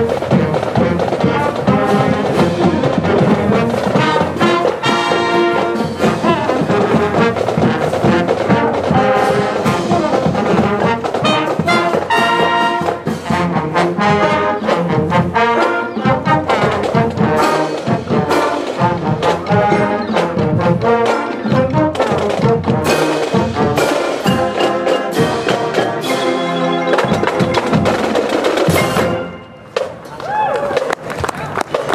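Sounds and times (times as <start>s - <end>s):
snare and bass drums: 0.0s - 26.2s, 26.8s - 30.0s
brass instruments playing tune: 0.0s - 29.8s.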